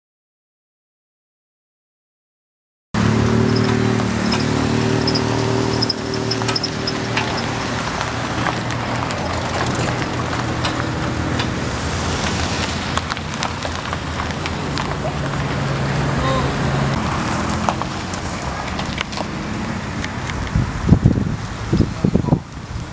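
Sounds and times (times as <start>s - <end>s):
car engines passing: 3.0s - 22.9s
outdoor background noise: 3.0s - 22.9s.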